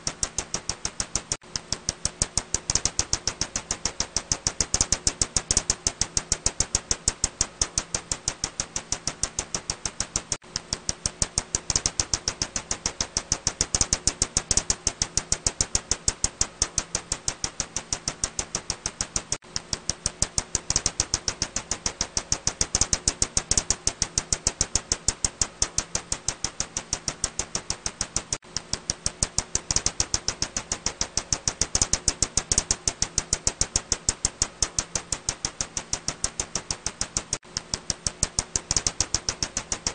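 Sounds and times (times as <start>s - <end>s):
bat echolocation clicks: 0.0s - 39.9s
faint steady hum: 0.0s - 39.9s.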